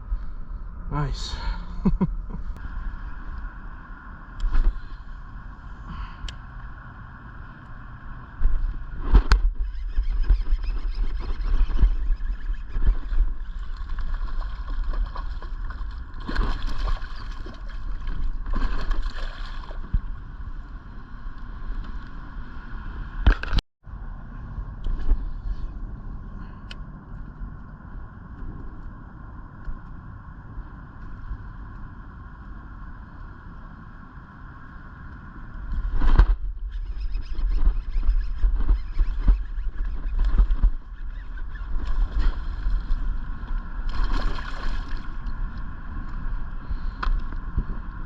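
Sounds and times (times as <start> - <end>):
wind rumble on microphone: 0.0 - 48.0.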